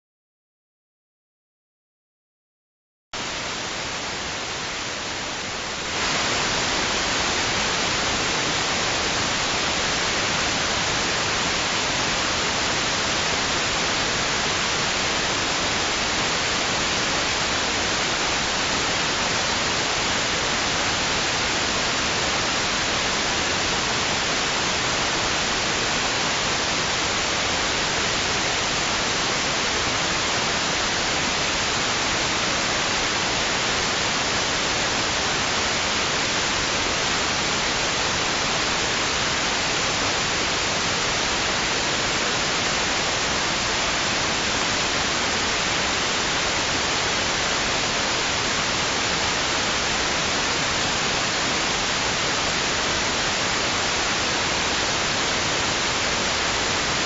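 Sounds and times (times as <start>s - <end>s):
steady white noise hiss: 3.2s - 57.0s.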